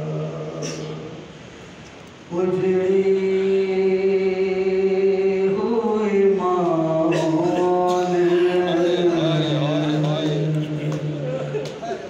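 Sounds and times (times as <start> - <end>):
man chanting into a microphone: 2.3 - 12.0.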